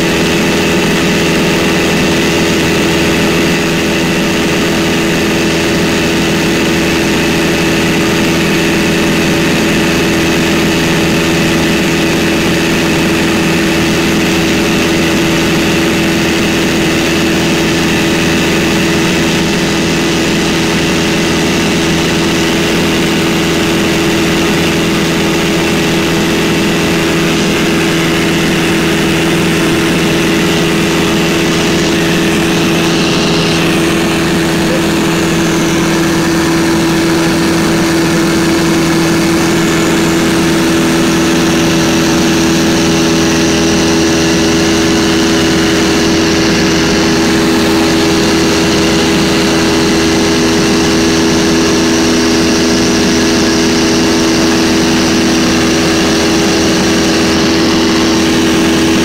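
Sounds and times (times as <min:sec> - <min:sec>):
plane engine and propeller droning: 0:00.0 - 0:59.0.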